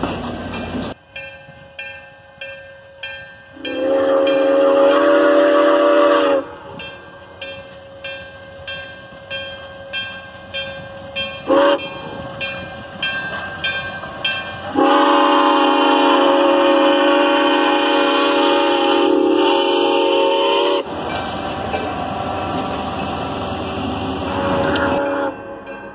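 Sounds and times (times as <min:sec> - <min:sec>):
train rumbling past: 0:00.0 - 0:25.9
steam locomotive chime whistle: 0:01.1 - 0:21.9, 0:24.1 - 0:25.9
steam engine exhaust beats: 0:03.1 - 0:25.9.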